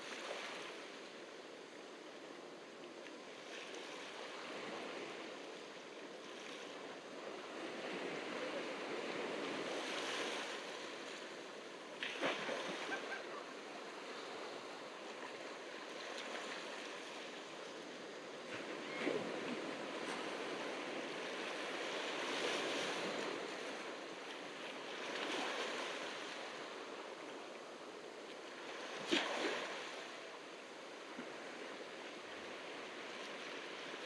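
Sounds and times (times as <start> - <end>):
ocean waves breaking on beach: 3.2 - 34.0.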